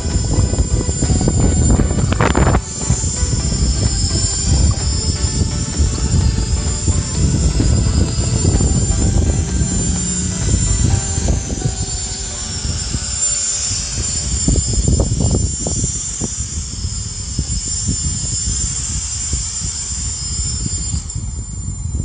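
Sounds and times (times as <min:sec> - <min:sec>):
drone propellers whining: 0:00.0 - 0:22.0
wind rumbling on microphone: 0:00.0 - 0:22.0.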